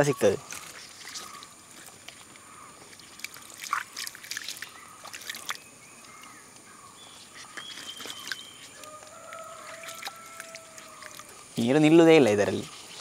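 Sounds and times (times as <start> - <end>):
stream water splashing: 0.0 - 6.4, 7.2 - 13.0.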